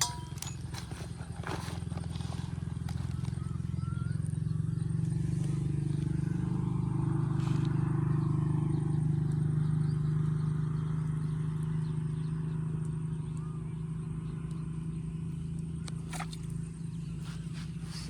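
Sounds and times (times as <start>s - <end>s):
small engine chugging: 0.0s - 18.0s.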